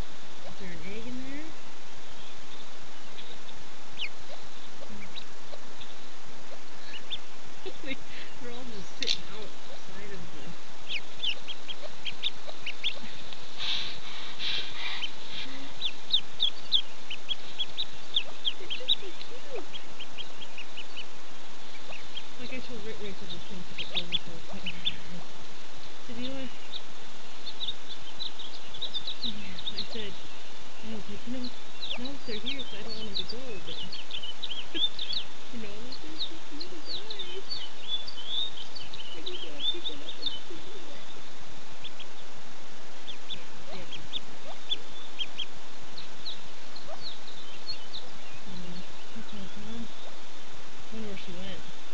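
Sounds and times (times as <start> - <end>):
ducklings peeping: 0.0 - 51.9.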